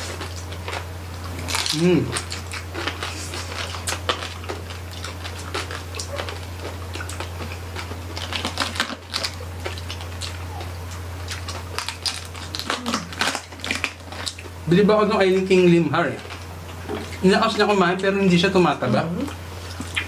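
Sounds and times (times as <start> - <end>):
chewing crispy pork skin: 0.0 - 20.0
steady low hum: 0.0 - 20.0.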